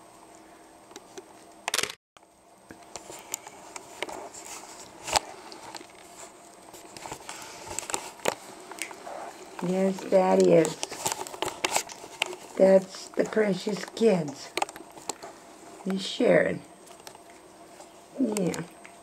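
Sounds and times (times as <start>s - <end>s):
puppies gnawing on chews: 2.7s - 16.0s, 16.8s - 19.0s.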